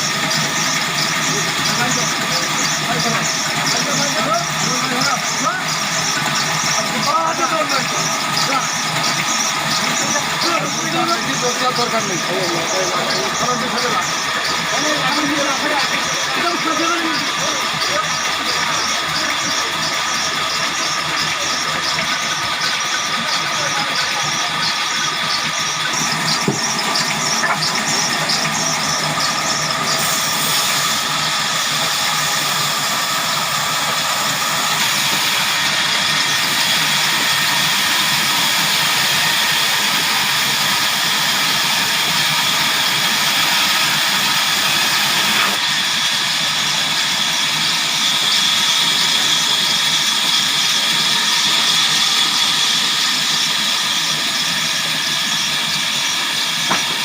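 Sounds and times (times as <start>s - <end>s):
sawmill saw cutting log: 0.0s - 57.0s.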